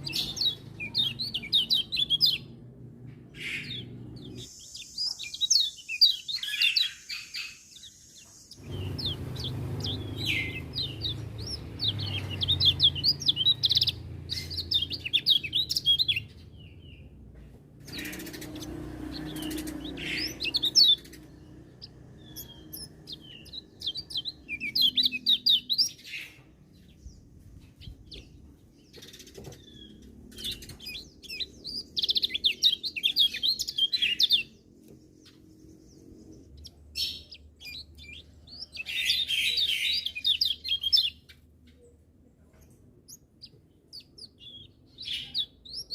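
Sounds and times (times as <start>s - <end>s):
small bird twittering chirps: 0.0s - 45.9s.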